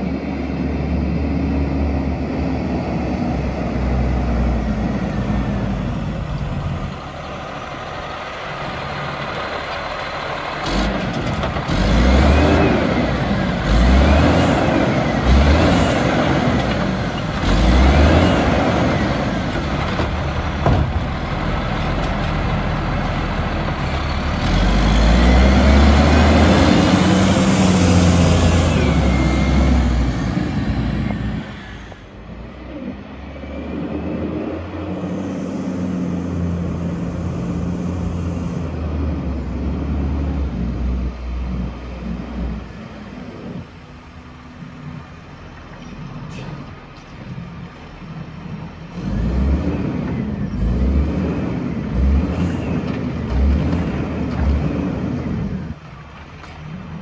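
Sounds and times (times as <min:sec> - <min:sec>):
garbage truck diesel engine revving: 0:00.8 - 0:44.0, 0:46.2 - 0:55.8.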